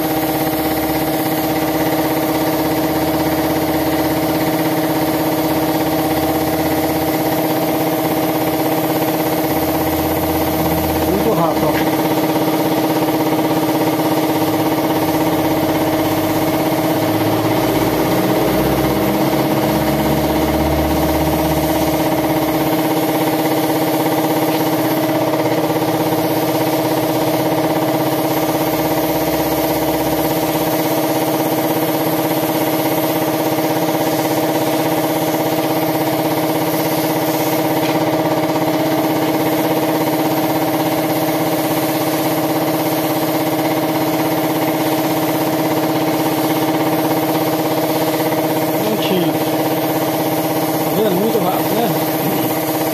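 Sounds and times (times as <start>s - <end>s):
air compressor humming: 0.0s - 52.9s.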